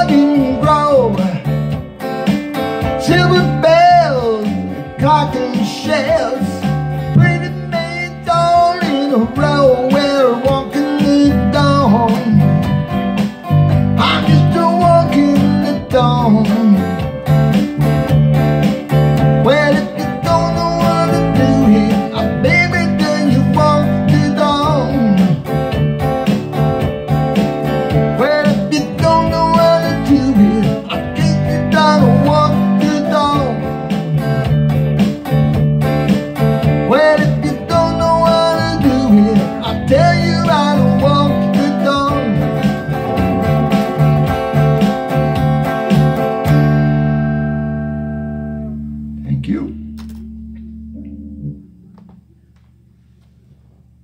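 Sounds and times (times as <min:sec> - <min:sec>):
electric guitar blues riff: 0:00.0 - 0:52.6.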